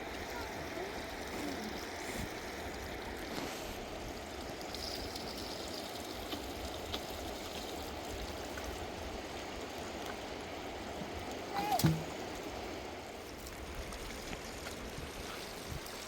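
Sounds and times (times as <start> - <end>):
rushing flowing water: 0.0 - 16.0.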